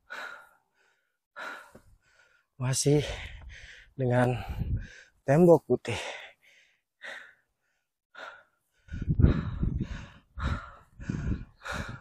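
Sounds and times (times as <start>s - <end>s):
person breathing hard: 0.0s - 5.2s, 5.9s - 12.0s.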